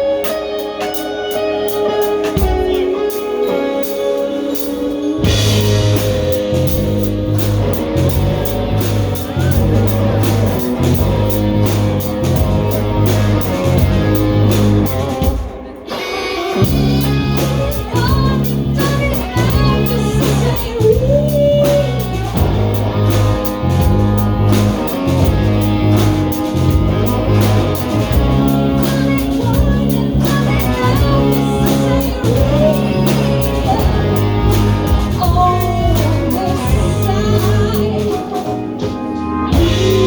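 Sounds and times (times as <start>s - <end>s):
live band playing: 0.0s - 40.0s
pulsing bass line: 5.2s - 15.2s, 16.6s - 38.5s, 39.6s - 40.0s.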